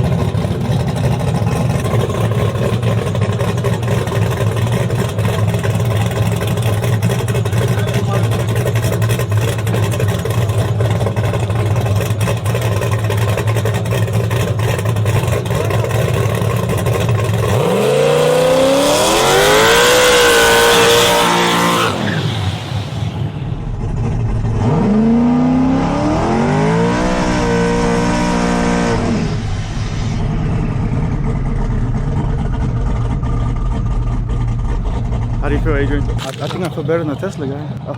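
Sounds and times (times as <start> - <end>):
truck engine accelerating hard: 0.0 - 37.9.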